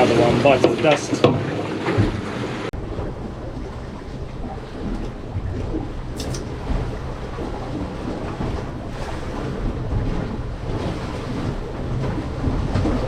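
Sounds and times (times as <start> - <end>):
sea noise: 0.0 - 13.0
wind buffeting microphone: 0.0 - 13.0.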